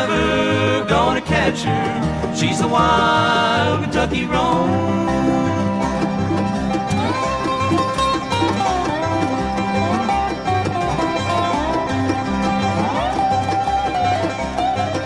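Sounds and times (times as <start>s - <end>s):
bluegrass band playing: 0.0s - 15.0s
dobro lead sliding notes: 0.0s - 15.0s.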